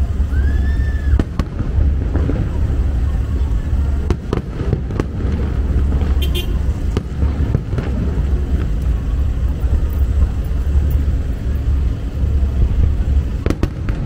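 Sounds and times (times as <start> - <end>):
fireworks bangs: 0.0 - 14.0
fireworks crackle: 0.0 - 14.0
low rumble: 0.0 - 14.0.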